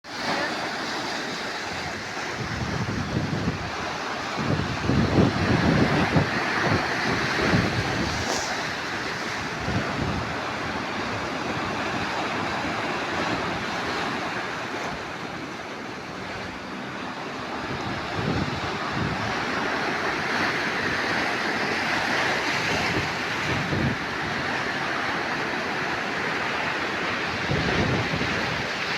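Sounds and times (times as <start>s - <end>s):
sea waves washing: 0.0s - 28.9s
wind buffeting microphone: 0.2s - 15.4s, 16.0s - 28.9s.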